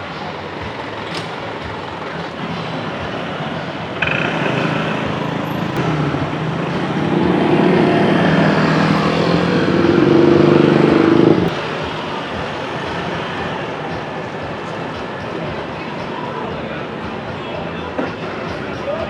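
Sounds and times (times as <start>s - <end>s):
vehicle engine: 0.0s - 18.8s
street traffic: 0.0s - 19.0s.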